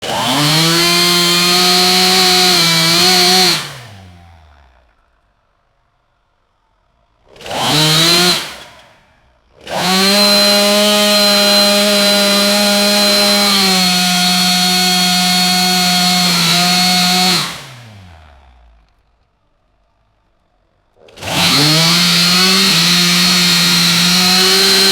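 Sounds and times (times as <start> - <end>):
chainsaw revving: 0.0 - 5.2, 7.0 - 19.2, 20.9 - 24.9.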